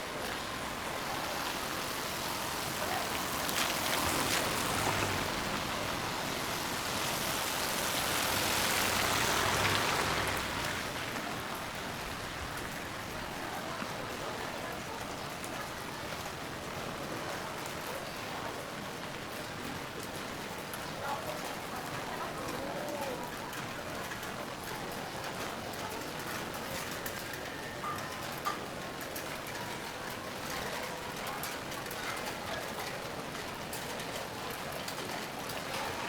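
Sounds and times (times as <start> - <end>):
rain on street: 0.0 - 36.0.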